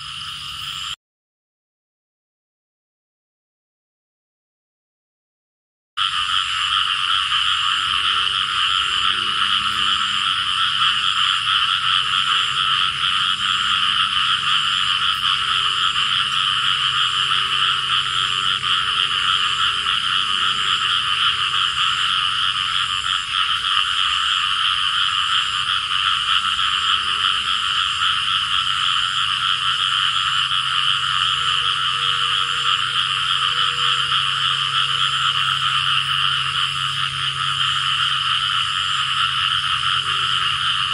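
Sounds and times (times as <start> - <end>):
faint low frog calls: 0.0 - 1.0, 6.0 - 40.9
frogs calling: 0.0 - 1.0, 6.0 - 40.9.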